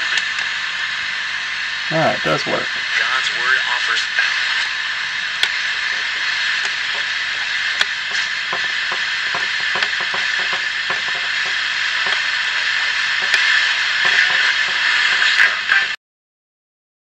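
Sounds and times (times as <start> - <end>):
radio static hiss: 1.9 - 16.0.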